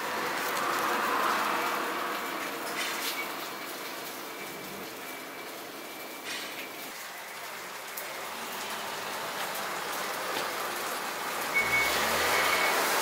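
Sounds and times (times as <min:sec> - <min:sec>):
griddle sizzling: 0:00.0 - 0:13.0.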